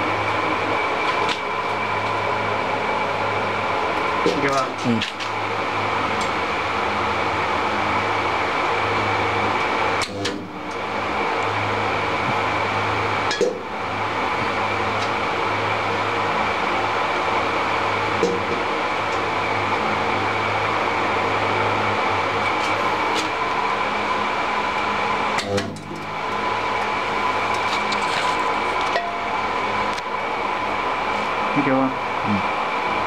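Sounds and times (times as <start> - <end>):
spot welding machine humming: 0.0 - 33.0.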